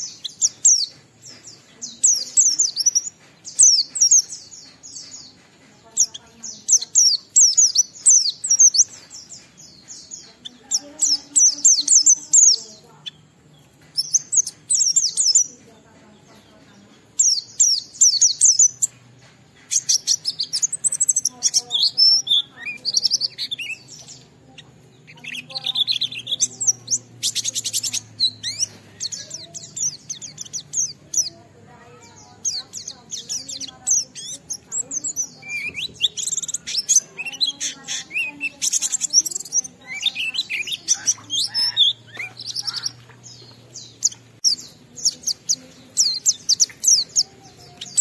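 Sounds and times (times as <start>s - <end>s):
bird singing high twittering phrases: 0.0s - 48.0s.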